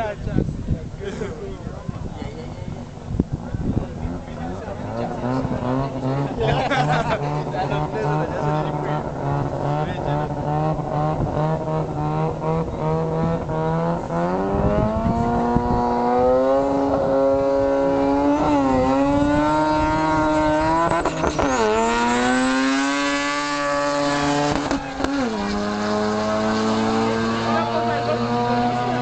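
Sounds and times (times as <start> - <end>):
drag racing car engine: 2.7 - 29.0.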